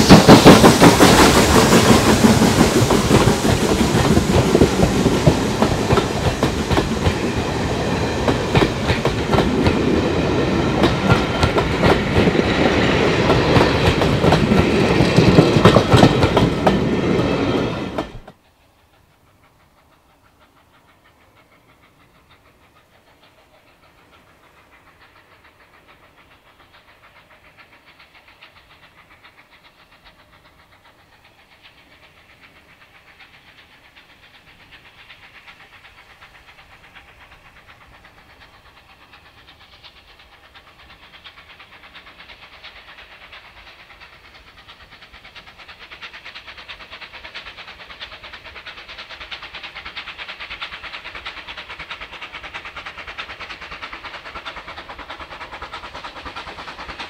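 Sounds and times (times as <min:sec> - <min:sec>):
steam locomotive exhaust beat: 0:00.0 - 0:57.0.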